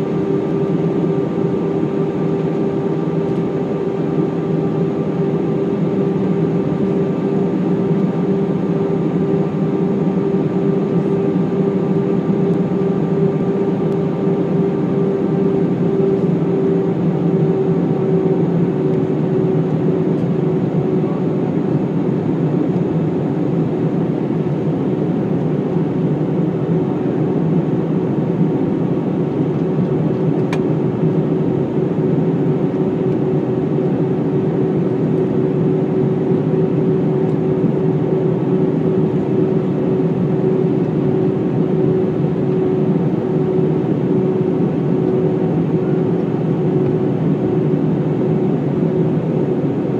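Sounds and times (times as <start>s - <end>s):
aircraft engines and rushing air: 0.0s - 49.9s
constant hum tone: 0.0s - 49.9s.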